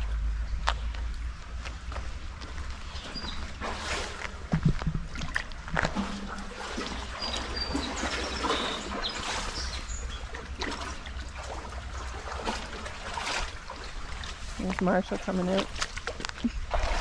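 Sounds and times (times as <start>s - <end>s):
creek water trickling: 0.0s - 17.0s
small splashes: 0.7s - 17.0s.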